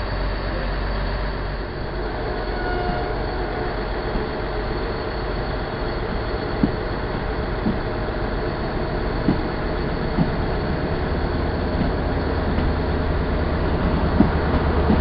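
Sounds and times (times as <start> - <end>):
train coaches rolling past: 0.0 - 15.0.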